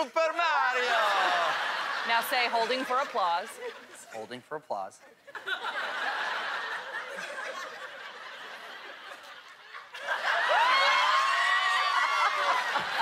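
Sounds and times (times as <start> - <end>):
group of people laughing: 0.8 - 4.2, 5.3 - 13.0.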